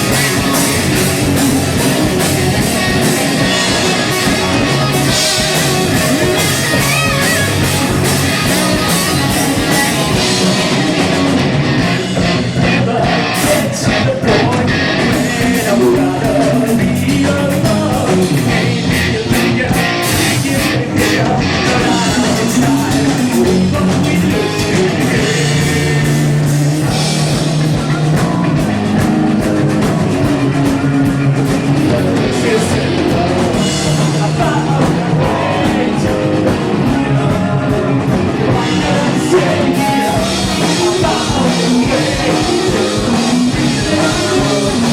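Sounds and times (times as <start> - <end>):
drum kit: 0.0 - 44.9
electric guitar: 0.0 - 44.9
person singing: 0.0 - 44.9.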